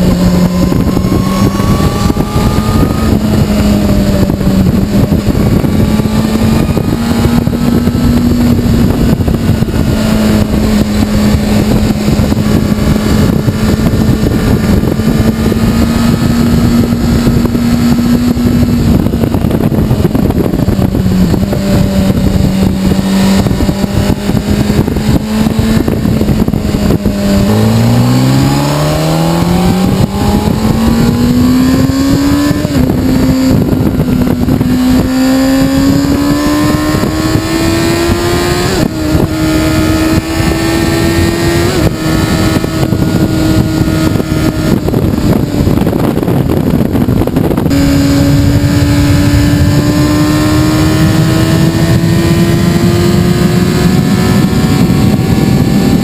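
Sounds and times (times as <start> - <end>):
motorcycle engine accelerating: 0.0 - 56.0
wind rushing: 0.0 - 56.0.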